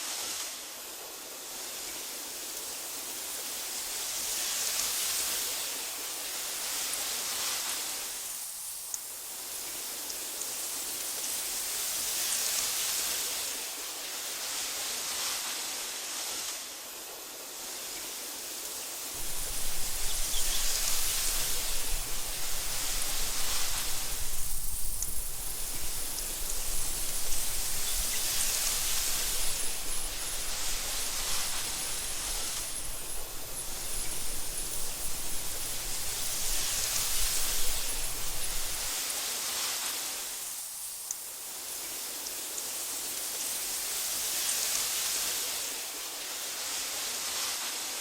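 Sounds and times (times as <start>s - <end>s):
wind through tall grass: 0.0s - 48.0s.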